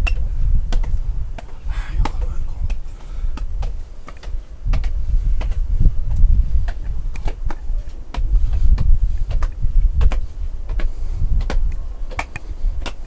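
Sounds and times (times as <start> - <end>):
footsteps on rocky path: 0.0 - 13.0
low microphone rumble: 0.0 - 13.0.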